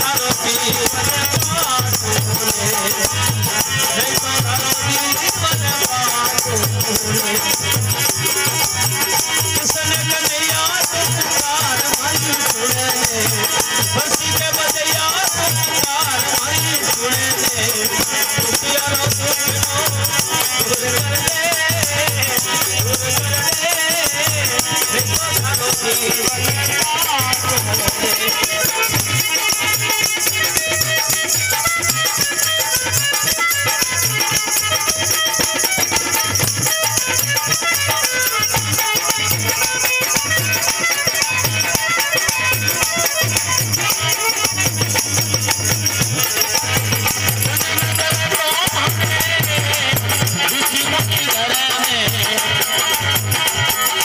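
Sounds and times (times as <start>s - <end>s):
hand drum beat: 0.0s - 54.0s
harmonium melody: 0.0s - 54.0s
high jingling percussion: 0.0s - 54.0s
person singing: 0.0s - 54.0s.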